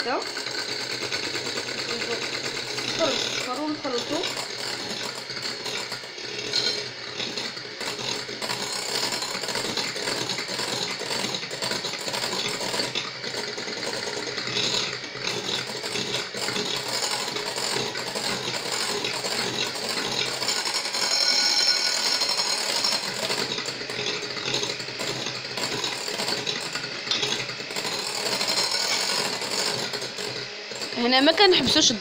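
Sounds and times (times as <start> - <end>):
electric hand mixer running: 0.0 - 32.0.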